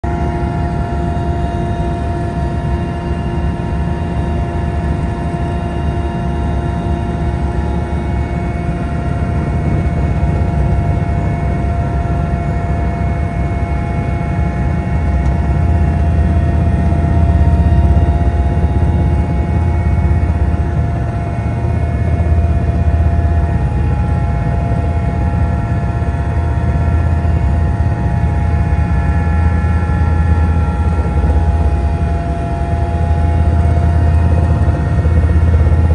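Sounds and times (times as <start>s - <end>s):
aircraft engine drone: 0.0s - 35.9s.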